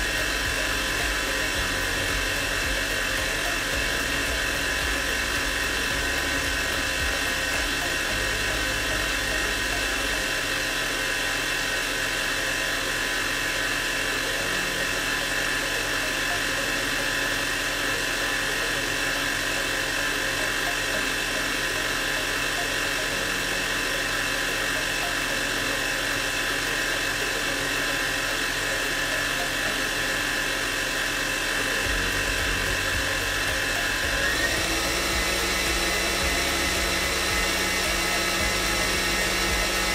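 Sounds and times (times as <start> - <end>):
electric mixer motor whining: 0.0 - 39.9.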